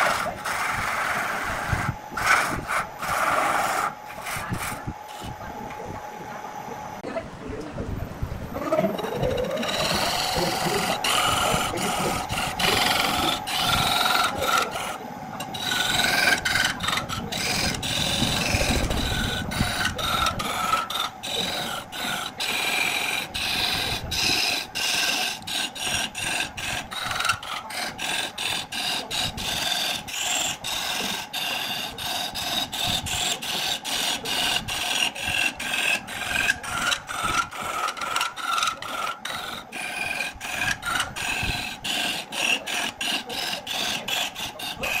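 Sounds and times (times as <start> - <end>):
wood lathe tool scraping: 0.0 - 5.5, 8.6 - 45.0.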